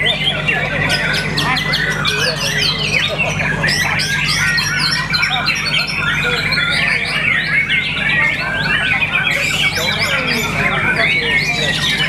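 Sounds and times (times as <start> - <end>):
bird singing chirps and trills: 0.0 - 12.0
steady low hum: 0.0 - 12.0.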